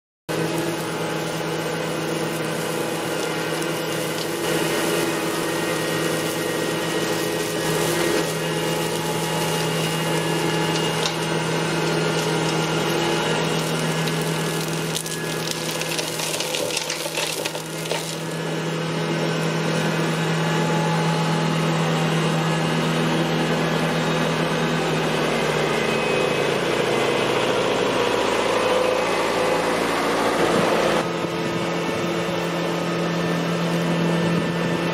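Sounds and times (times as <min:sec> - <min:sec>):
flail mower chopping brush: 0:00.3 - 0:34.9
tractor machine drone: 0:00.3 - 0:34.9.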